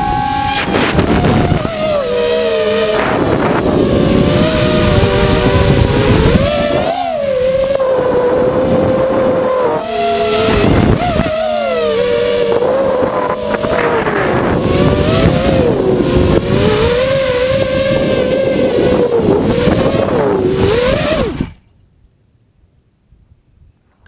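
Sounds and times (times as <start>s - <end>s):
wind rushing: 0.0s - 21.6s
quadcopter motors whining: 0.0s - 21.7s.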